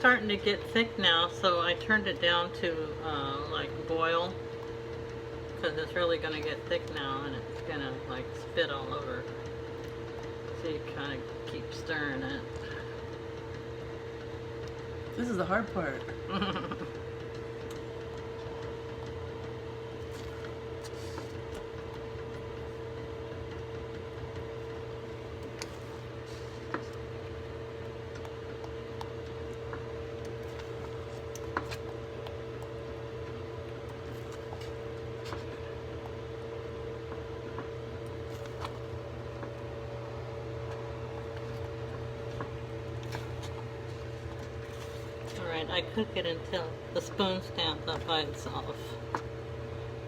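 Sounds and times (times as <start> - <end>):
boiling mush in a pot: 0.0 - 50.0
kitchen hum: 0.0 - 50.0.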